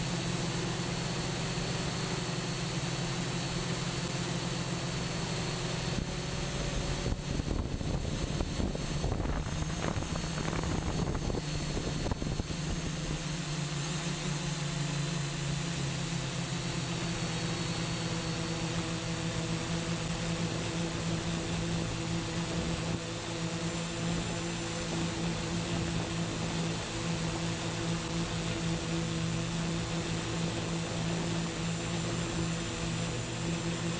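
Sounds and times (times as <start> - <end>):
multi-rotor drone motors humming: 0.0 - 33.9.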